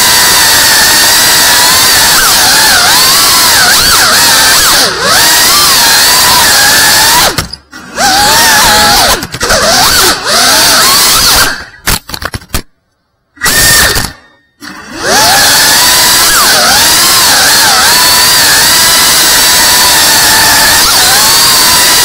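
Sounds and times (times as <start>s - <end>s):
quadcopter motors whining: 0.0s - 11.8s, 13.4s - 22.0s.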